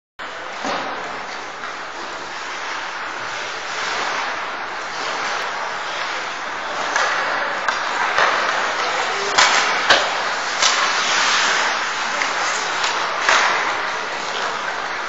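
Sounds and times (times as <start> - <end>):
ice rink hiss: 0.2 - 15.0
hockey sticks and puck knocking: 0.6 - 15.0.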